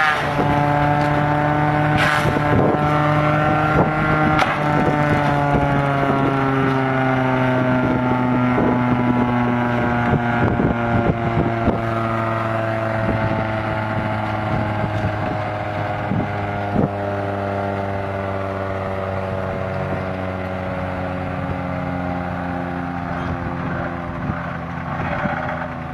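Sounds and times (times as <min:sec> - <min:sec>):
tractor engine running under load: 0:00.0 - 0:25.9.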